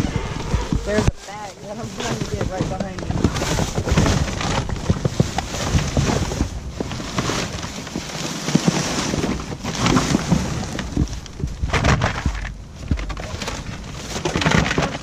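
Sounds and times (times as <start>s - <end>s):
trash bags and cardboard rustling: 0.0s - 15.0s.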